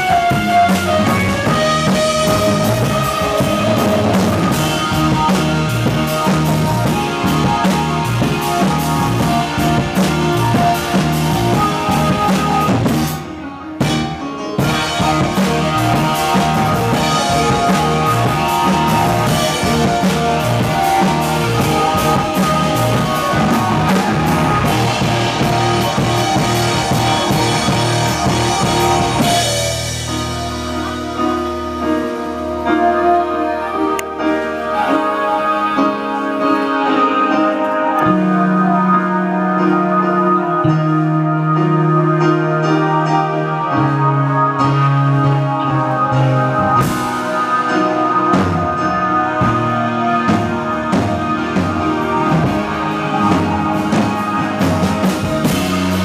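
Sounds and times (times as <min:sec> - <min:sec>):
drum kit: 0:00.0 - 0:56.0
electric guitar: 0:00.0 - 0:56.0
synthesizer keyboards: 0:00.0 - 0:56.0.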